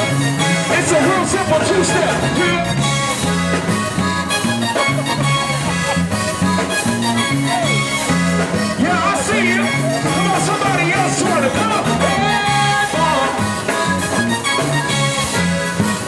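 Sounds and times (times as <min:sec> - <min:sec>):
bass line: 0:00.0 - 0:16.0
zydeco band playing: 0:00.0 - 0:16.0.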